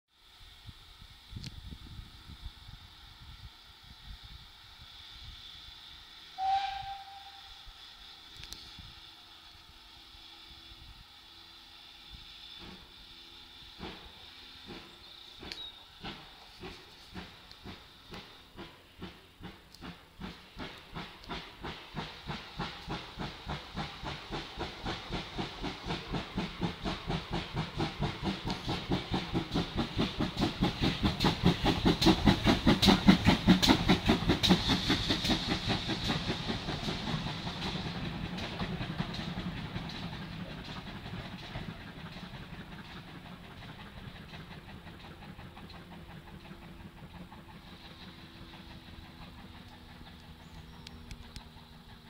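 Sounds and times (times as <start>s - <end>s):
steam locomotive chuffing: 0.2s - 52.0s.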